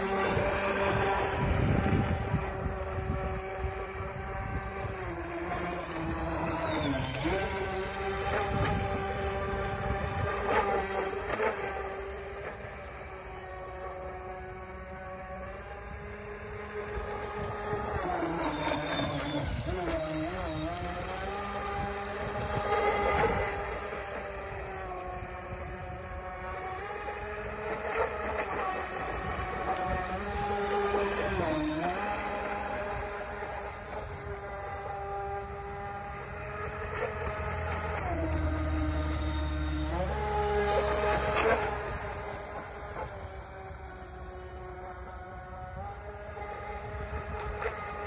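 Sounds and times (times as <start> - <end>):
electric motor whining: 0.0 - 48.0
low wind rumble: 0.0 - 48.0.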